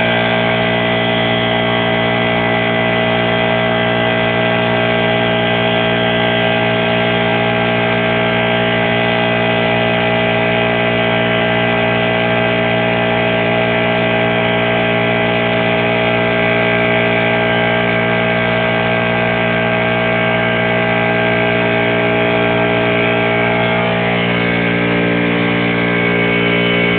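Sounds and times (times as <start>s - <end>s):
engine running steadily: 0.0s - 26.9s.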